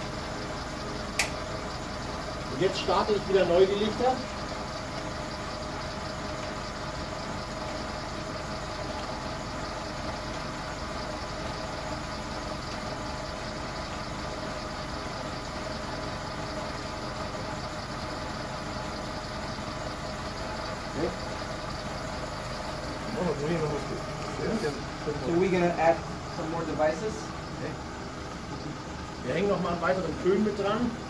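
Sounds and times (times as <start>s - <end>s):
faint steady tones: 0.0s - 31.0s
generator hum: 0.0s - 31.0s.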